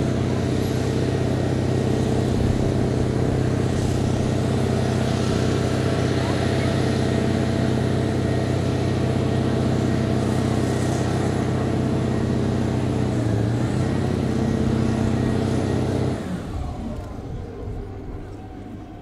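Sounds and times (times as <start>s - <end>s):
fire truck engine and pump: 0.0s - 19.0s.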